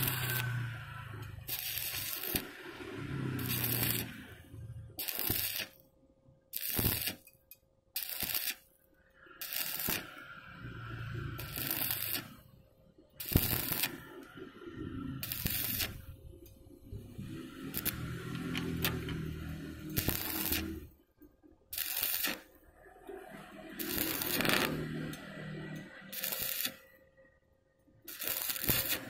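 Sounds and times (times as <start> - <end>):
arc welding crackling and sizzling: 0.0 - 5.8, 6.5 - 7.4, 8.0 - 12.6, 13.2 - 21.0, 21.7 - 27.0, 28.0 - 29.0
welding arc hissing: 0.0 - 5.8, 6.5 - 7.3, 8.0 - 8.6, 9.2 - 12.6, 13.2 - 20.9, 21.7 - 26.9, 28.1 - 29.0.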